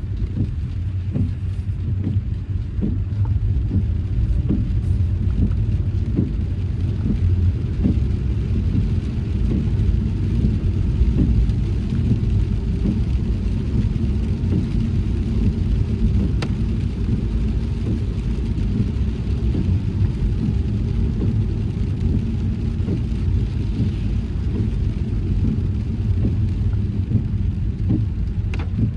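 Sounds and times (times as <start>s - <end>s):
car engine and tyres rumbling: 0.0s - 28.9s.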